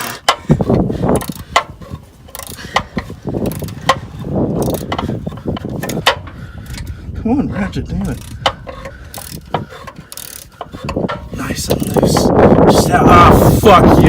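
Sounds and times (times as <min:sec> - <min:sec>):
hand ratchet clicking: 0:00.0 - 0:06.9, 0:08.0 - 0:12.4.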